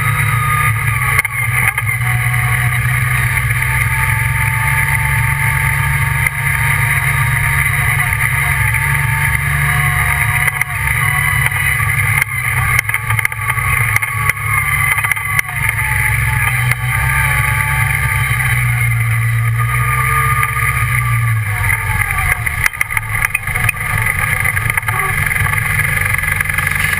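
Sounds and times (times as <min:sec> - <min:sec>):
buggy engine running: 0:00.0 - 0:26.9.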